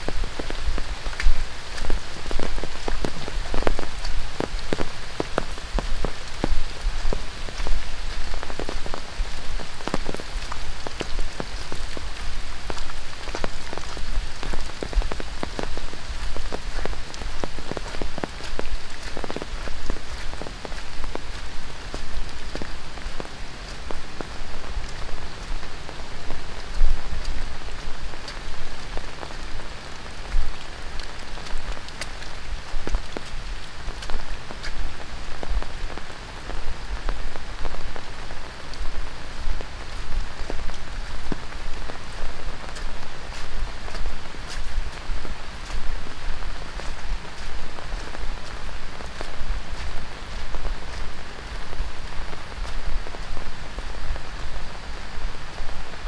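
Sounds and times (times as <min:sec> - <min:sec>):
heavy rain on leaves: 0:00.0 - 0:56.0
sharp raindrops striking: 0:00.0 - 0:56.0.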